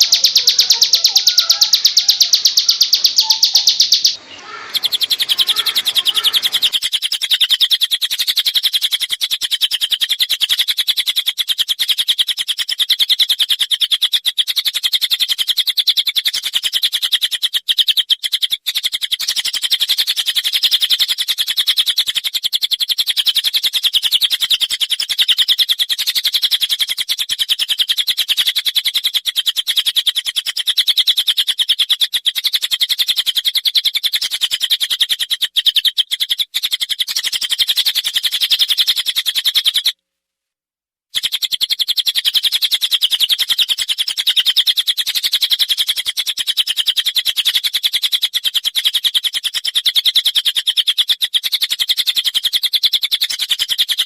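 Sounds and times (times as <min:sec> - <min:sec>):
songbird chirping rapidly: 0:00.0 - 0:40.0, 0:41.2 - 0:54.0.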